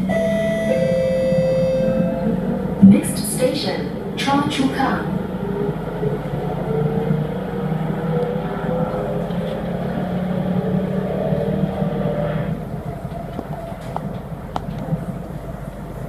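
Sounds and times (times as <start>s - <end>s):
steady low hum: 0.0s - 16.0s
train propulsion whine rising: 0.0s - 16.0s.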